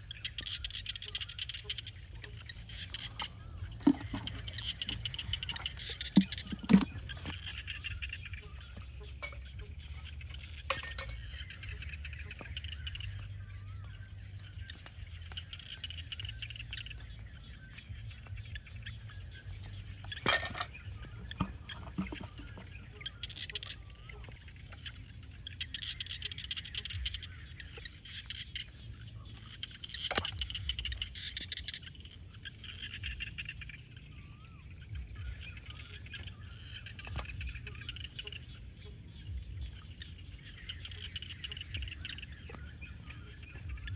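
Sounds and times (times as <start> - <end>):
faint bird chirps: 0.0 - 43.9.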